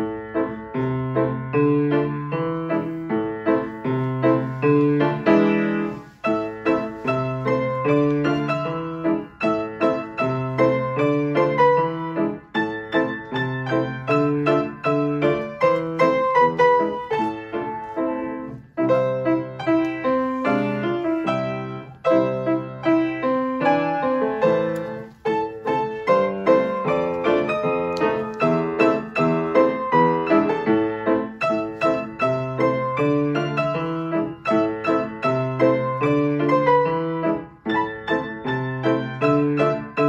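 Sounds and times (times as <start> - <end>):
piano playing a march: 0.0 - 40.0.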